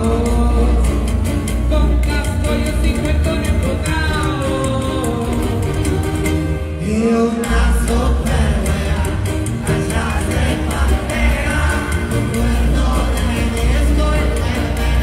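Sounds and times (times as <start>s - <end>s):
heavy bass line: 0.0s - 15.0s
live band music: 0.0s - 15.0s
man singing into a microphone: 0.0s - 15.0s.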